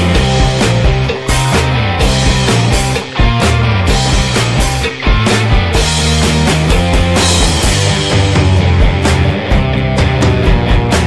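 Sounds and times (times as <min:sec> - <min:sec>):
bass line: 0:00.0 - 0:11.0
rock music: 0:00.0 - 0:11.0
steady drum beat: 0:00.0 - 0:11.0.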